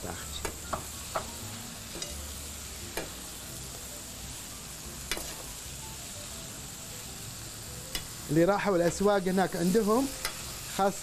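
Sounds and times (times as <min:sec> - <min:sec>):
vegetables sizzling in a hot pan: 0:00.0 - 0:11.0.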